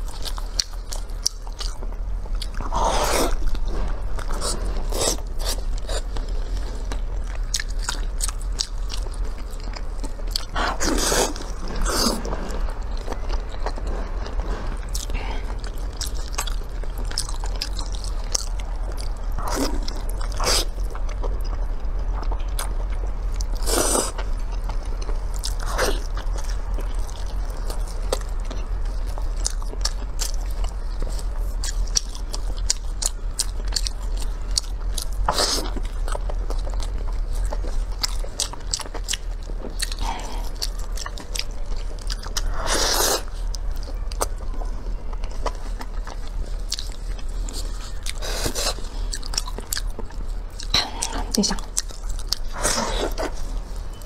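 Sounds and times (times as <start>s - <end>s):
steady low hum: 0.0s - 54.0s
wet chewing and lip smacking: 0.0s - 54.0s.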